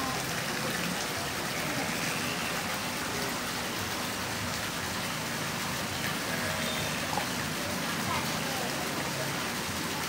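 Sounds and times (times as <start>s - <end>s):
water pouring into pool: 0.0s - 10.0s.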